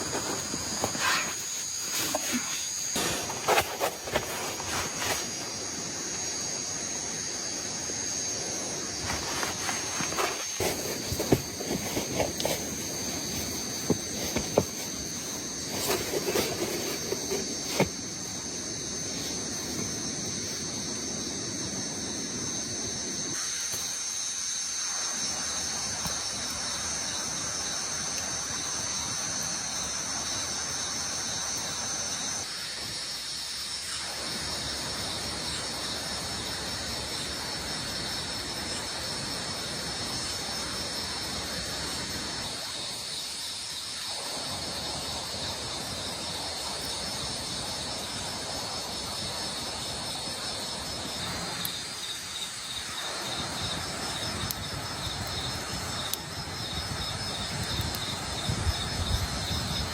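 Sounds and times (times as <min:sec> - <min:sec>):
insects trilling: 0:00.0 - 0:59.9
rain falling in forest: 0:00.0 - 0:59.9.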